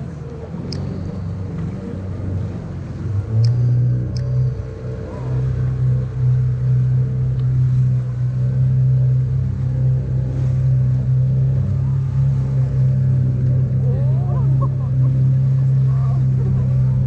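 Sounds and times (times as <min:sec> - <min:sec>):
boat engine humming: 0:00.0 - 0:17.0
water rushing past hull: 0:00.0 - 0:17.0.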